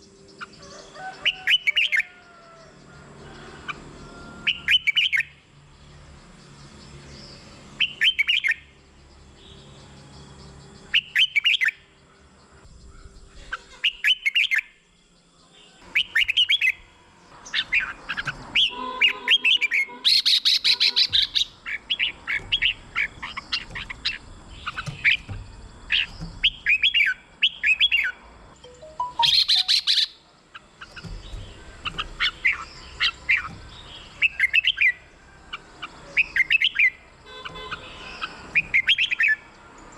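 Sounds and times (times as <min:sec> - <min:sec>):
bird singing warbled phrases: 0:00.0 - 0:02.6, 0:04.4 - 0:05.4, 0:06.6 - 0:39.9.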